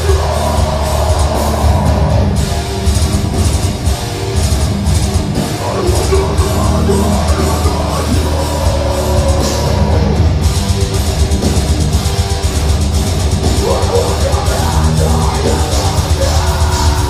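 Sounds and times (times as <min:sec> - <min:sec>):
bass guitar: 0:00.0 - 0:17.0
distorted electric guitars: 0:00.0 - 0:17.0
drum kit: 0:00.0 - 0:17.0.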